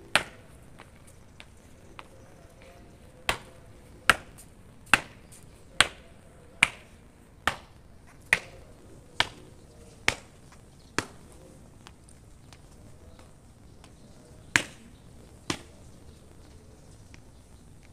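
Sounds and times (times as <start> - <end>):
marching footsteps on pavement: 0.0 - 17.9.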